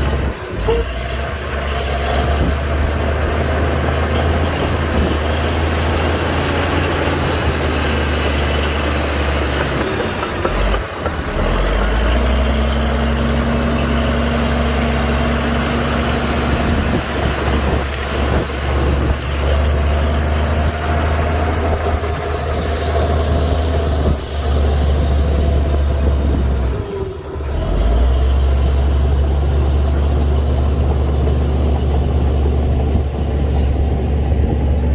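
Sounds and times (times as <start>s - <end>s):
heavy diesel machinery engine drone: 0.0s - 34.9s.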